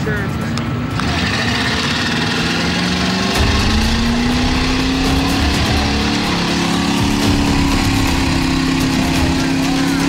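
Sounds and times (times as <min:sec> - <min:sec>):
truck engine at high revs: 0:00.0 - 0:10.0.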